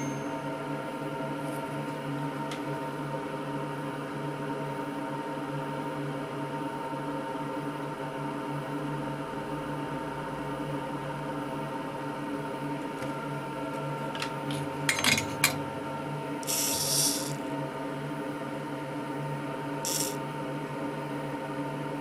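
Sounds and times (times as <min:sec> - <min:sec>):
soldering bench hum: 0:00.0 - 0:22.0.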